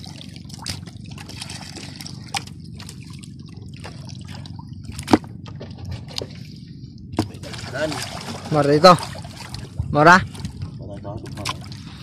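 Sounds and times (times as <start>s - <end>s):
water sloshing and trickling: 0.0s - 12.0s.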